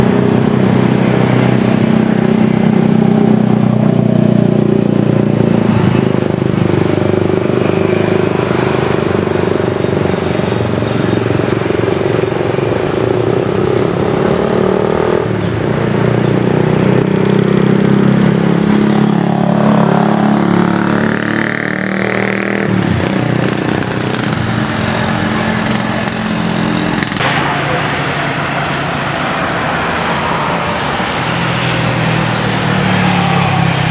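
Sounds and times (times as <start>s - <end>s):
loud engine drone: 0.0s - 33.9s.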